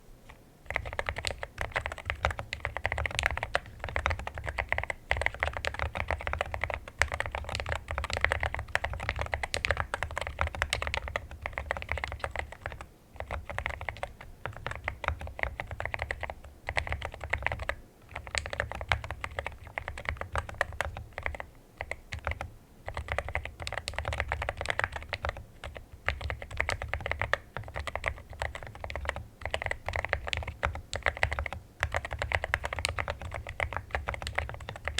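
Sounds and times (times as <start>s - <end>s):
mechanical keyboard typing: 0.7s - 34.9s.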